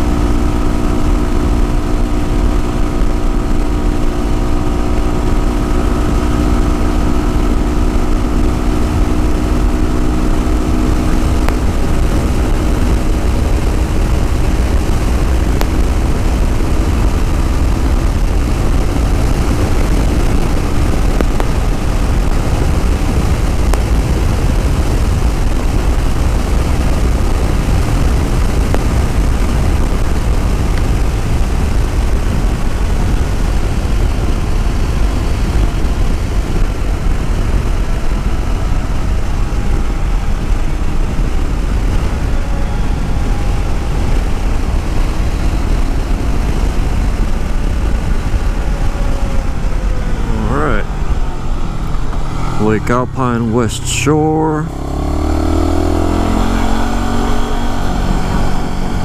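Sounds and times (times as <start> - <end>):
wind rumble on microphone: 0.0 - 53.7, 54.5 - 59.0
motorcycle engine running: 0.0 - 59.0.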